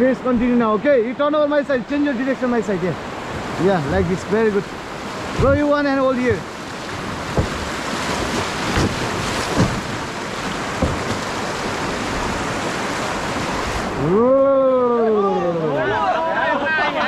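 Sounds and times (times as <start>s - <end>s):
rushing whitewater rapids: 0.0s - 17.0s
water splashes: 1.6s - 16.3s.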